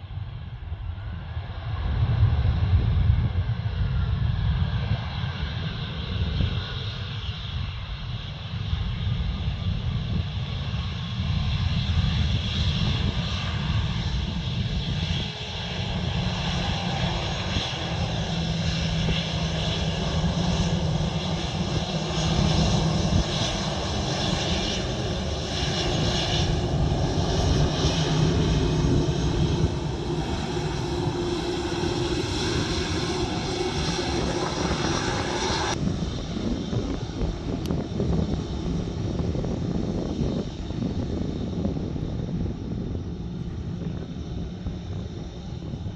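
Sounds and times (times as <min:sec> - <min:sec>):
jet engine deep rumble: 0:00.0 - 0:45.9
jet engines whining: 0:04.6 - 0:45.7.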